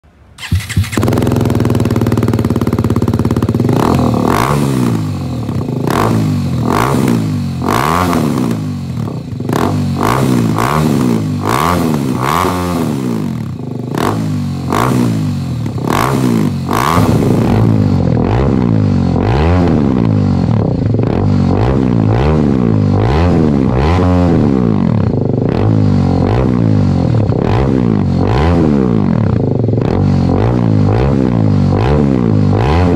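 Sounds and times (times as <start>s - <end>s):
motorcycle engine revving: 0.4s - 32.9s
motorcycle engine starting and idling: 0.4s - 32.9s.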